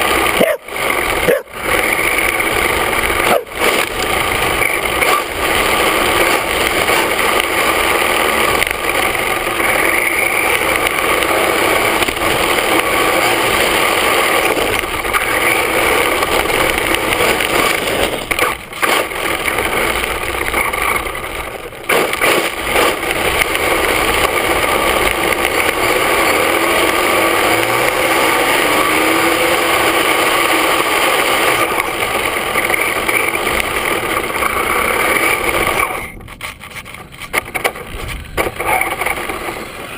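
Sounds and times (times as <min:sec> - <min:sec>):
motor and gear whine: 0:00.0 - 0:36.0
tyre and wind noise rushing: 0:00.0 - 0:39.9.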